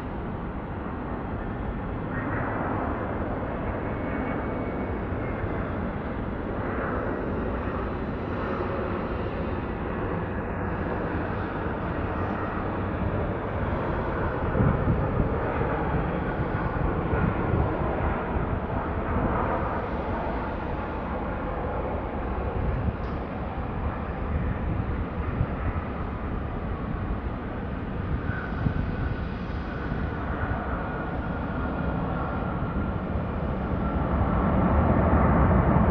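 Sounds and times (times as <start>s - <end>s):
jet engine noise: 0.0s - 35.9s.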